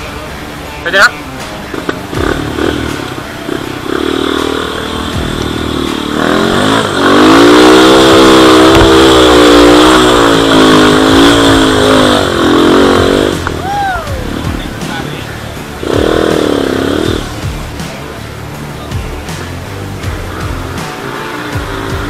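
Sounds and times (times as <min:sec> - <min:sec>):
dirt bike engine revving: 0:01.6 - 0:22.0.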